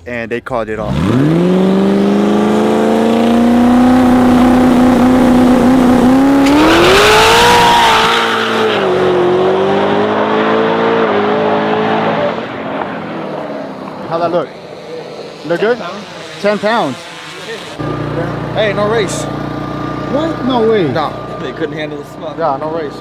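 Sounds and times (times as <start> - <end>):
truck engine revving: 0.7 - 23.0.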